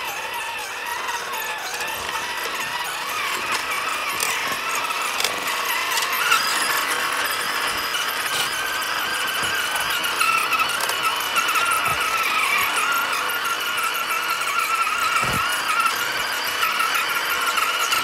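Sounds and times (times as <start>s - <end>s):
toy car electric motor whining: 0.0s - 18.0s.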